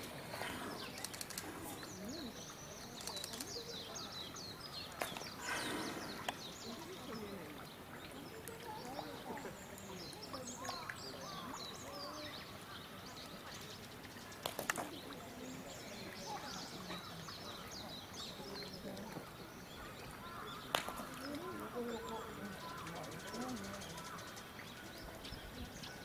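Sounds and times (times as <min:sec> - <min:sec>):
distant voices: 0:00.0 - 0:26.0
small birds chirping: 0:00.0 - 0:26.0.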